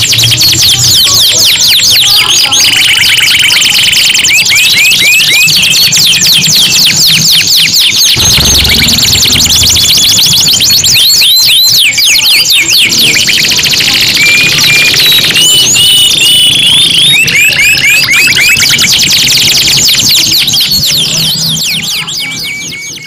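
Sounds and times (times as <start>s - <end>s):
canaries singing trills: 0.0s - 23.0s.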